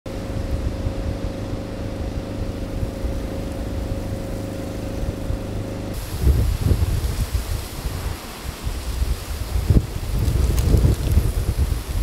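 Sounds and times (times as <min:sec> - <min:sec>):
steady motor hum: 0:00.1 - 0:12.0
wind rumble on microphone: 0:00.1 - 0:12.0.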